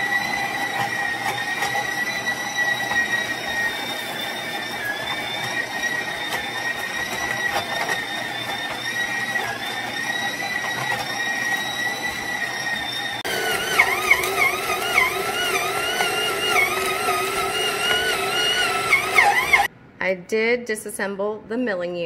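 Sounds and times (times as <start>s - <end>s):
mixer motor whining: 0.0s - 19.7s.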